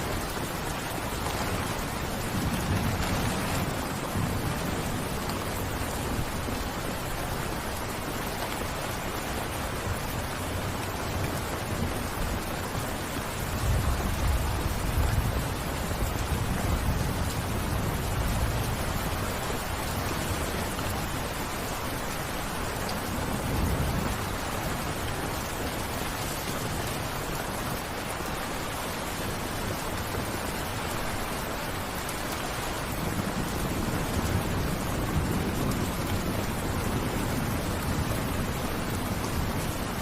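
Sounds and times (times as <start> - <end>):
dense rain falling: 0.0 - 40.0.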